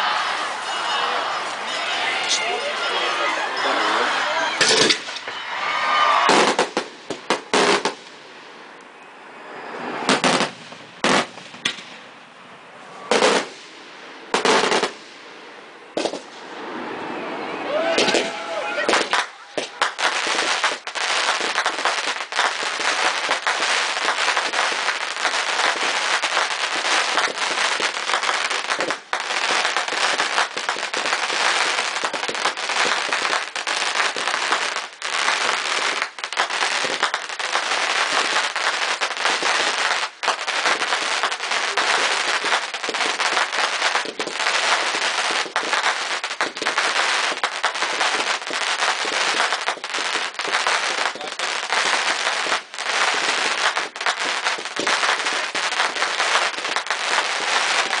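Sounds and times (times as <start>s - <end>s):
fireworks crackling and popping: 0.0s - 9.0s, 9.6s - 12.2s, 12.9s - 17.0s, 17.7s - 58.0s.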